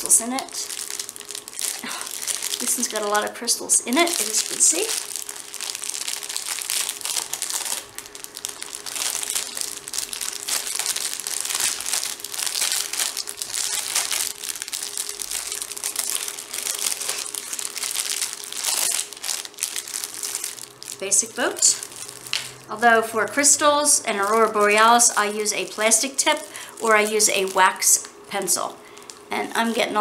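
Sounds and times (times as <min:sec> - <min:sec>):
plastic packaging crinkling: 0:00.0 - 0:22.6, 0:23.2 - 0:30.0.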